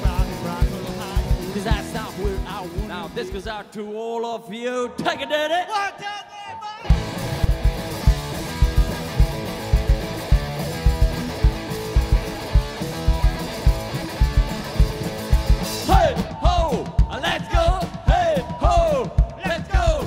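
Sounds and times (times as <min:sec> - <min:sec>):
punk rock band playing live: 0:00.0 - 0:03.6, 0:06.8 - 0:20.0.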